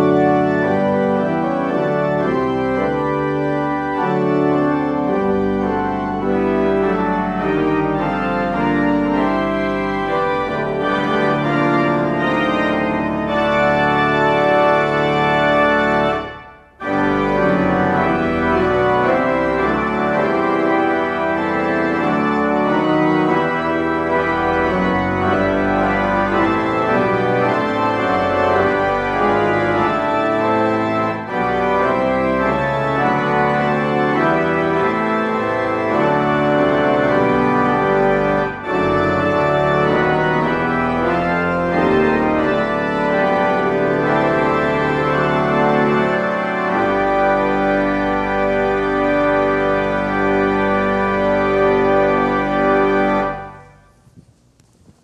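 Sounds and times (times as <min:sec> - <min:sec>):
organ playing a hymn: 0:00.0 - 0:54.0.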